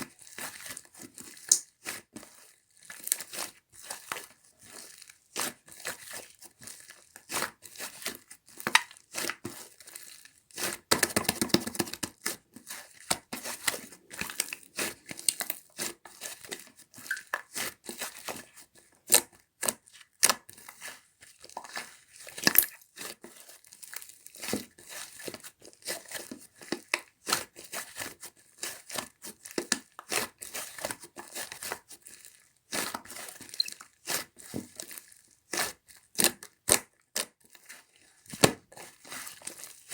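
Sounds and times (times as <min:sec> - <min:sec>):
hands squishing slime: 0:00.2 - 0:39.9.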